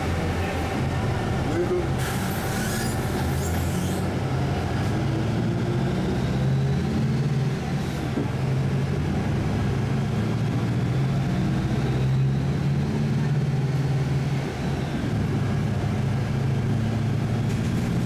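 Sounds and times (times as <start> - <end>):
road noise: 0.0 - 18.0
vehicle engine drone: 0.0 - 18.0.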